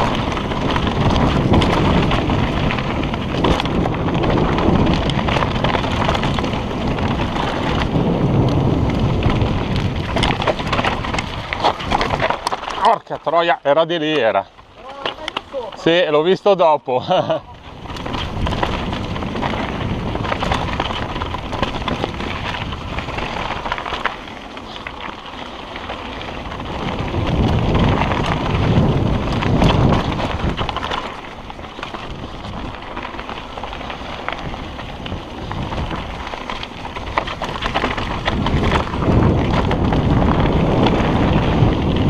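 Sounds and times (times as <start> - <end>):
wind on microphone: 0.0 - 12.5, 17.3 - 24.0, 25.7 - 42.0
bike clattering and rattling: 0.0 - 42.0
tyres crunching over loose stones: 0.0 - 42.0.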